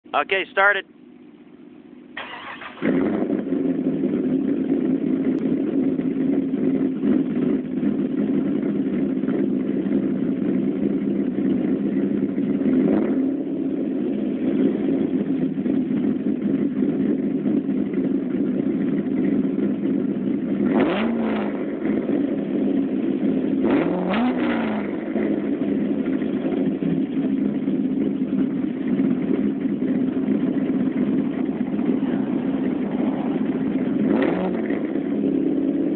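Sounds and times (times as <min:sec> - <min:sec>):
car engine idling with choppy lope: 0:00.0 - 0:35.9
engine revving: 0:02.2 - 0:10.8, 0:11.6 - 0:17.4, 0:19.2 - 0:35.9.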